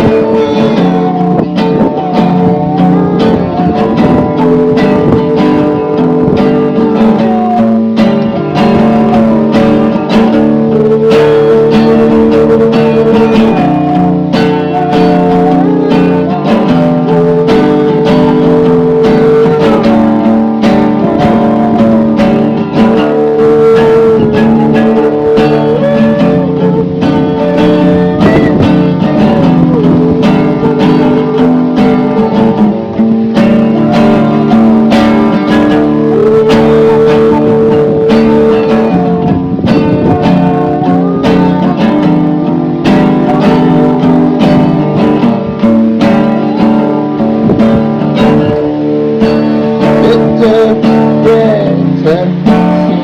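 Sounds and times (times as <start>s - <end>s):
strummed acoustic guitar chords: 0.0s - 53.0s
sustained melody line: 0.0s - 53.0s.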